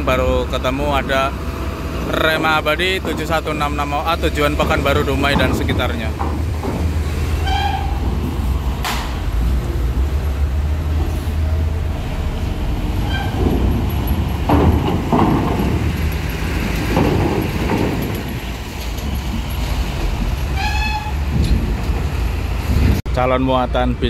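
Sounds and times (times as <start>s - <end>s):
diesel bus engine rumble: 0.0s - 24.0s.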